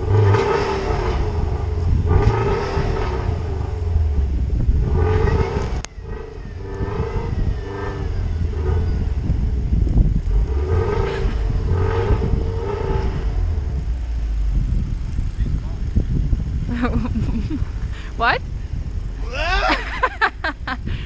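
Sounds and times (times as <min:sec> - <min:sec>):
car engine revving: 0:00.0 - 0:20.7.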